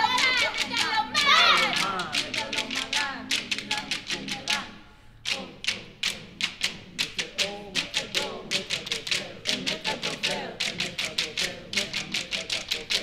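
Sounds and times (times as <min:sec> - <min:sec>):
low chanting voices: 0:00.0 - 0:13.0
rhythmic hand claps and taps: 0:00.0 - 0:13.0.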